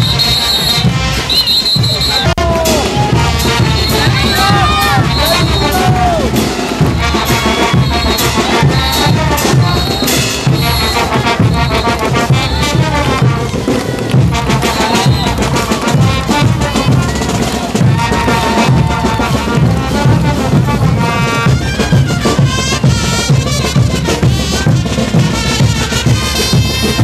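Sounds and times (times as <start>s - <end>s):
brass band playing dance music: 0.0s - 27.0s
steady drums: 0.0s - 27.0s.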